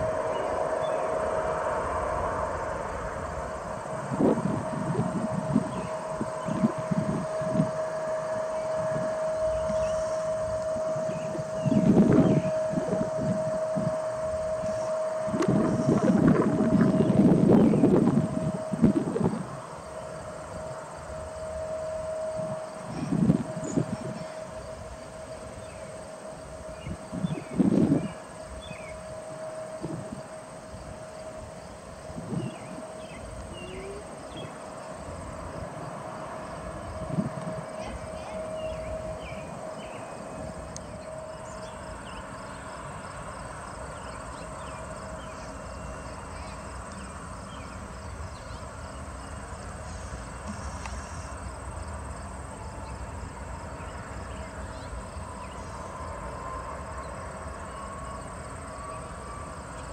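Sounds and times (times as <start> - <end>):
distant jet airliner rumble: 0.0 - 59.9
insect drone: 0.0 - 59.9.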